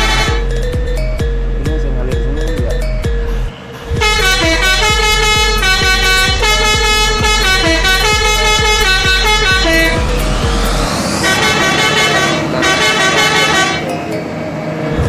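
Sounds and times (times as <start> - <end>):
multi-tone bus horn melody: 0.0 - 0.6, 3.3 - 15.0
low engine hum: 0.0 - 15.0.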